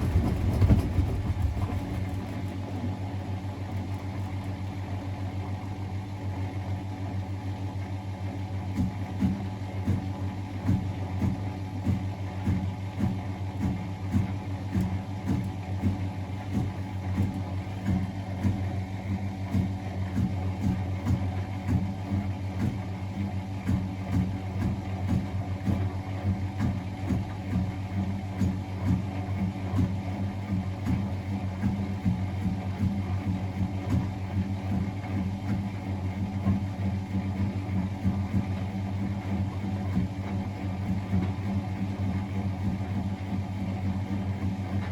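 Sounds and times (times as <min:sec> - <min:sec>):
washing machine running: 0:00.0 - 0:44.9.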